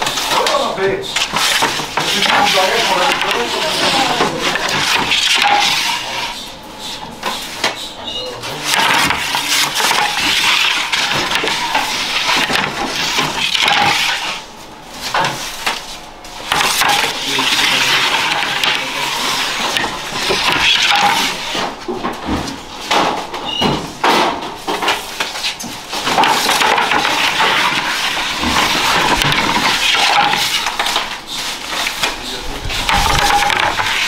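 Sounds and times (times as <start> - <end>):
baker's peel scraping brick hearth: 0.0 - 23.7, 24.5 - 34.0.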